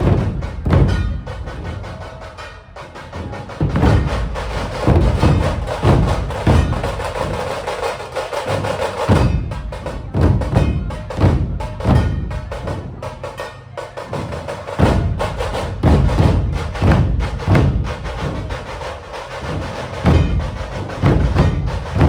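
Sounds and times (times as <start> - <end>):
deep drum strokes: 0.0 - 22.0
fast drum rattle: 0.0 - 22.0.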